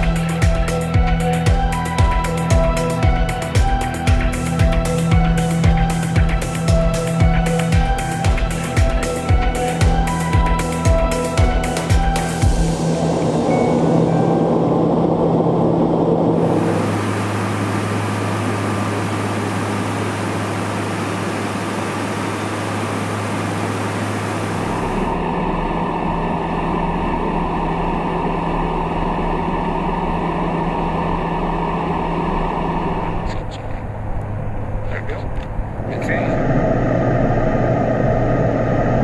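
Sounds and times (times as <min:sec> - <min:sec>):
turboprop engine hum: 0:00.0 - 0:39.0
rushing air noise: 0:02.6 - 0:39.0.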